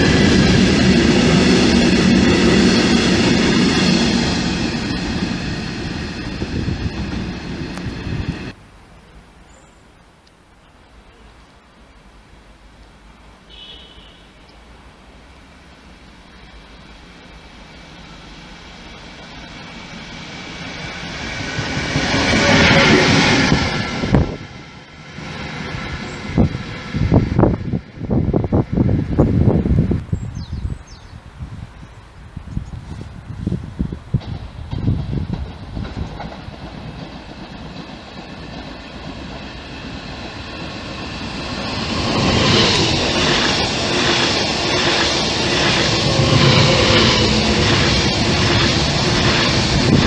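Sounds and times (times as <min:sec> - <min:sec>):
train wheels on rail: 0:00.0 - 0:08.6, 0:12.0 - 0:50.0.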